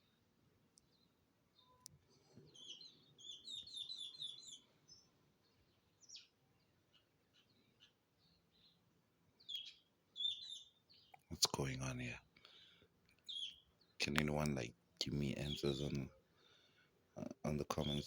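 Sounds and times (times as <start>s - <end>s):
sparrows chirping faintly: 0.0s - 18.0s.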